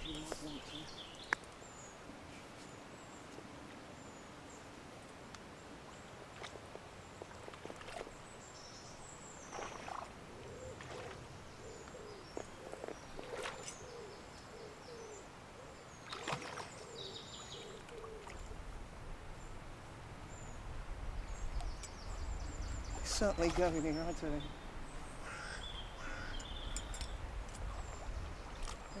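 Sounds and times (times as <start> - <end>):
small birds chirping: 0.0 - 6.5, 7.1 - 18.6, 20.3 - 29.0.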